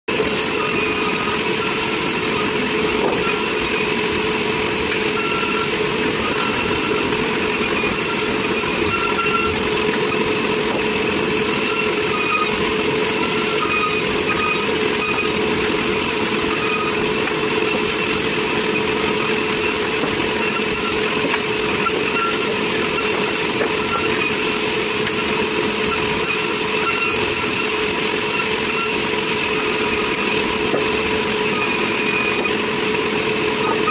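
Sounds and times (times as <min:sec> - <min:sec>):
sawmill machinery humming: 0:00.1 - 0:33.9.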